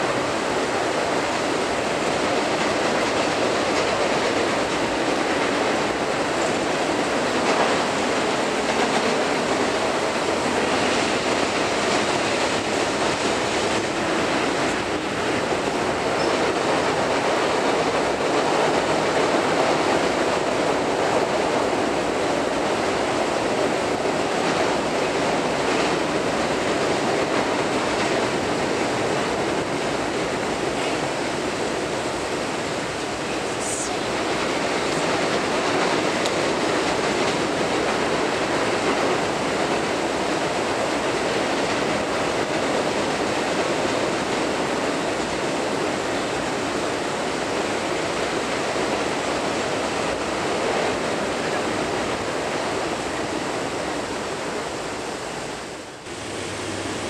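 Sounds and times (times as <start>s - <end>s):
train wheels on rail: 0.0s - 57.0s.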